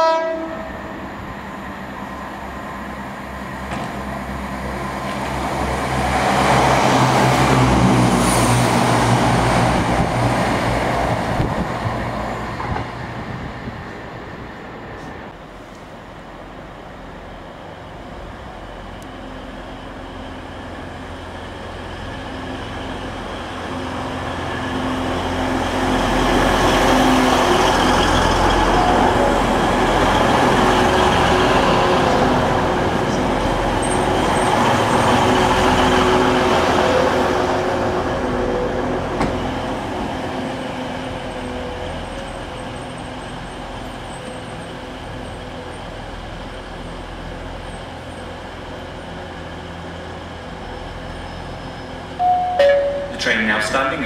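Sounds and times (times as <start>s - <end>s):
train engine and wheel noise: 0.0s - 54.0s.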